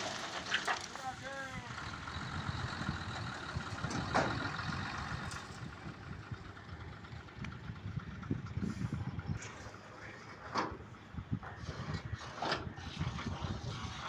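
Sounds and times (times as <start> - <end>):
diesel engine rumbling: 0.0 - 14.0
engine clatter: 0.0 - 14.0.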